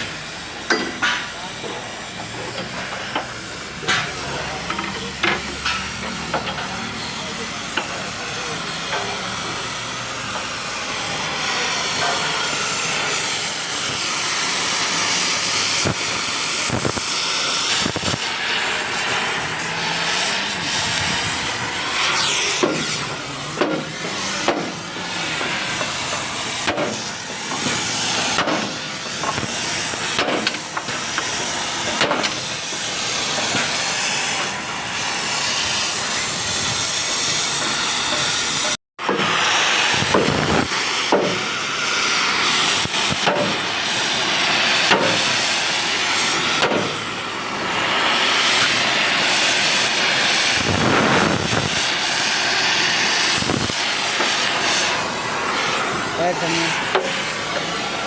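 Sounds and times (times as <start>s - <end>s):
loud steady hiss: 0.0s - 58.0s.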